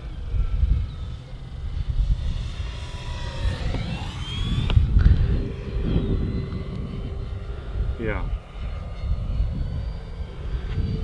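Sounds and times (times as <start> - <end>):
model plane motor whine: 0.0 - 11.0
wind rumbling on microphone: 0.0 - 11.0.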